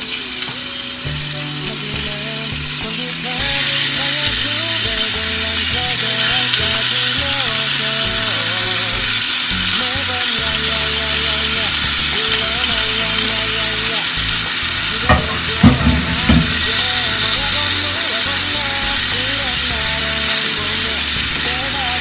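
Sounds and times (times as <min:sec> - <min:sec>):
background music with bass: 0:00.0 - 0:22.0
beef sizzling in a frying pan: 0:00.0 - 0:22.0.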